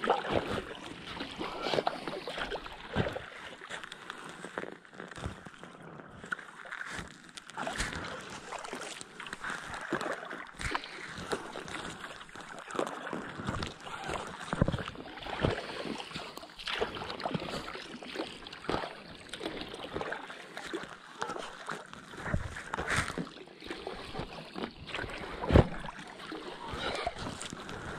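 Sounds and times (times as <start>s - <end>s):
paddle dipping into water: 0.0s - 5.6s, 6.4s - 27.9s
water splashing and trickling: 0.0s - 27.9s.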